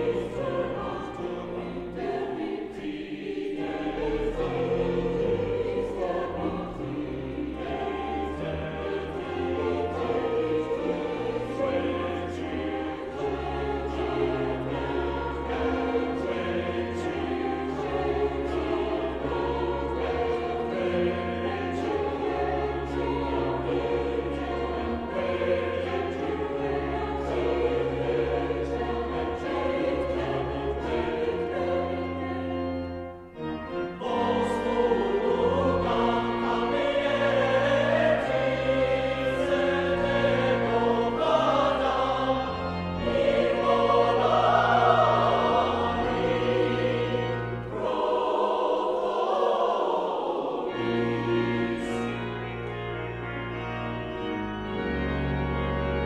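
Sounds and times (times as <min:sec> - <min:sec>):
choir singing: 0:00.0 - 0:56.0
sustained organ notes: 0:00.0 - 0:56.0.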